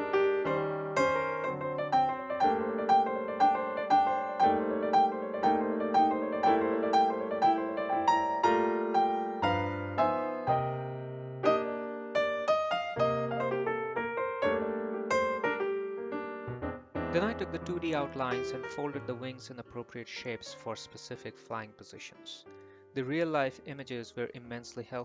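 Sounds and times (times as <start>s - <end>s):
light keyboard music: 0.0s - 25.0s.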